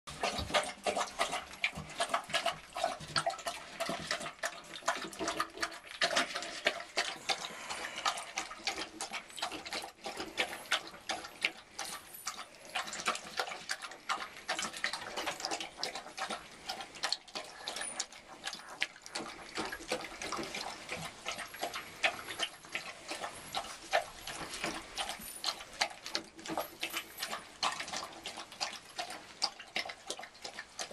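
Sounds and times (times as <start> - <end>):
dog lapping and chewing food: 0.1 - 30.9.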